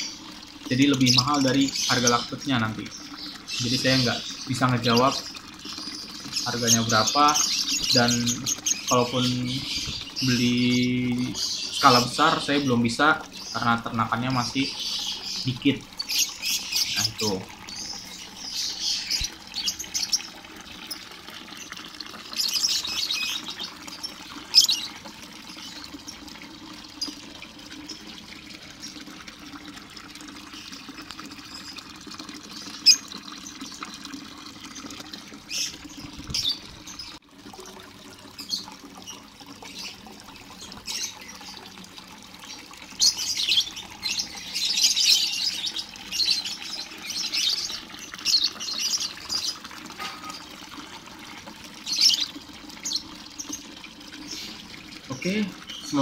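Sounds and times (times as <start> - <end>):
birds chirping and chattering: 0.0 - 56.0.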